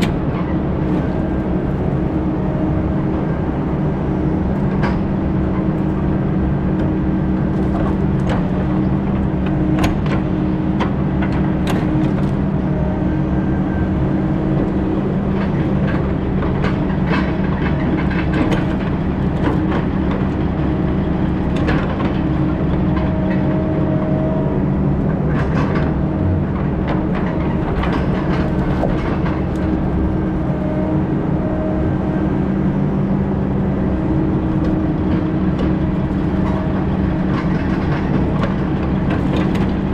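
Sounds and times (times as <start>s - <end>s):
heavy machinery engine running: 0.0s - 39.9s.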